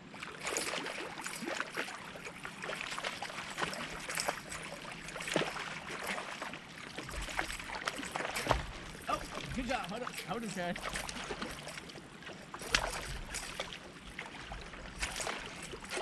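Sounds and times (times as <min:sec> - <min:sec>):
water splashing around paddle board: 0:00.0 - 0:16.0.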